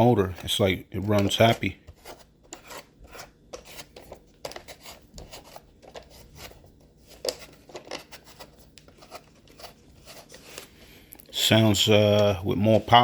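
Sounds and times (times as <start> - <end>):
hands scraping plastic parts: 0.0 - 10.8.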